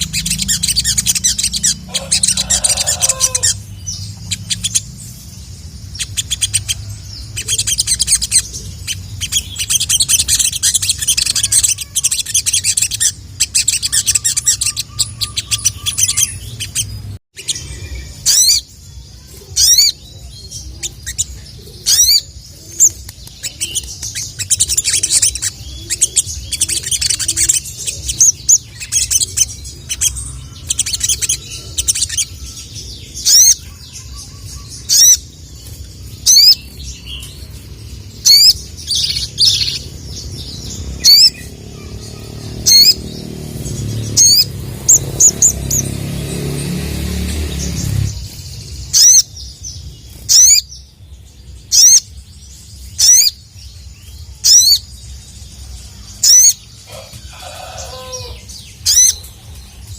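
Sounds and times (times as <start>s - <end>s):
bird sharp sweeping calls: 0.0s - 51.0s, 51.6s - 52.2s, 52.8s - 53.5s, 54.3s - 55.0s, 56.0s - 59.9s
bird trilling song: 0.0s - 59.9s.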